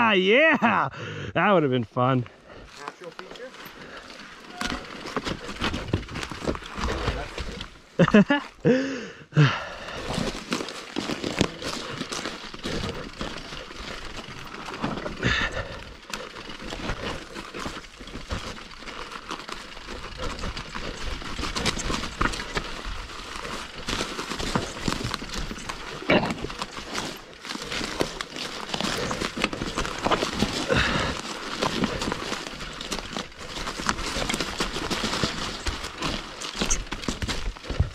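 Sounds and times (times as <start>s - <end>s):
twigs and leaves crackling: 2.2s - 37.9s.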